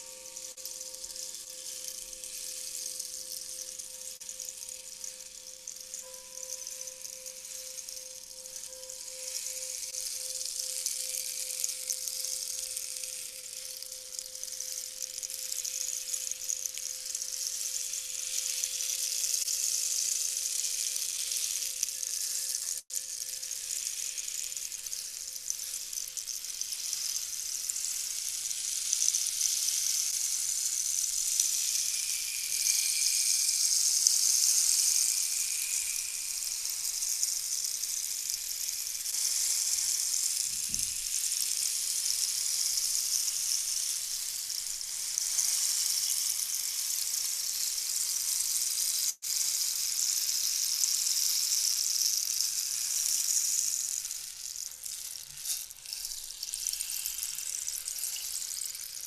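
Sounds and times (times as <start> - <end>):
high sizzling hiss: 0.0 - 59.0.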